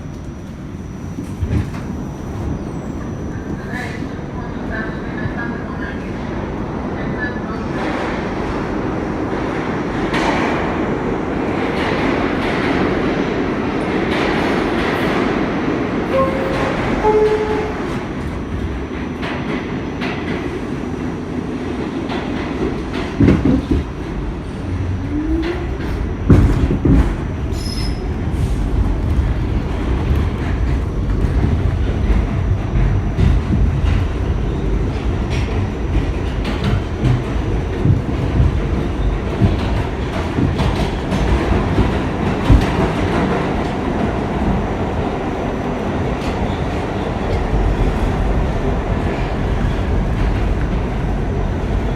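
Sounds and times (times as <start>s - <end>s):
subway train rumbling: 0.0s - 51.9s.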